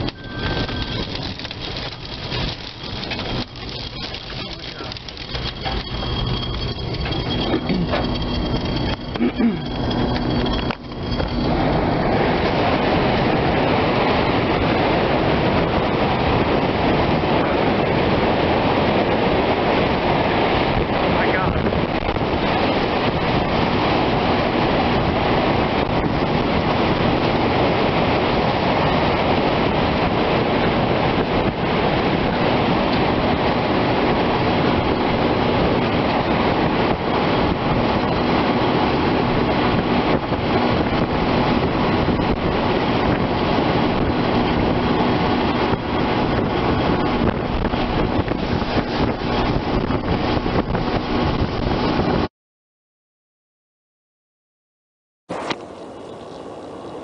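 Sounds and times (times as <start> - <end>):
tornado roar: 0.0 - 52.3
wind buffeting microphone: 0.0 - 52.3.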